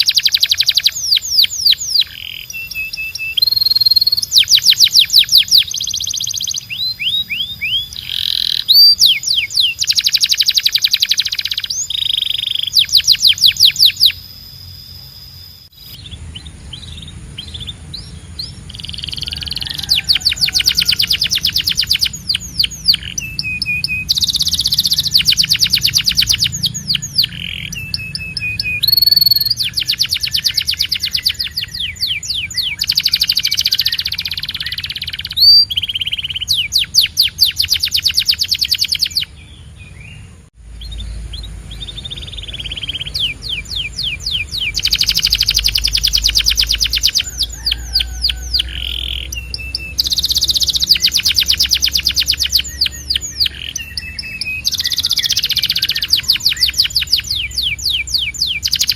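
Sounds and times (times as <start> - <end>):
canary singing: 0.0 - 58.9.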